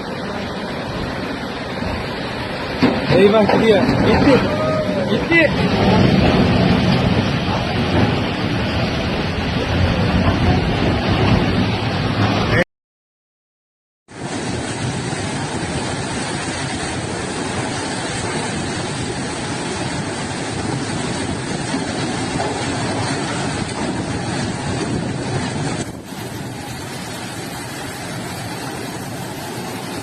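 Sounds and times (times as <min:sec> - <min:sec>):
floodwater rushing in a stream: 0:00.0 - 0:12.6, 0:14.1 - 0:30.0.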